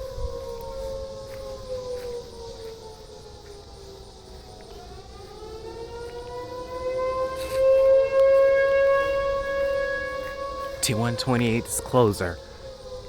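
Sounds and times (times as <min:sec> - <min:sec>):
outdoor warning sirens wailing: 0:00.0 - 0:13.0.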